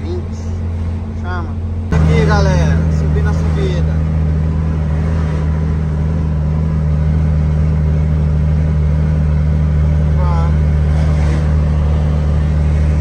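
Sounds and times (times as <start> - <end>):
road noise: 0.0 - 13.0
truck diesel engine under load: 0.0 - 13.0.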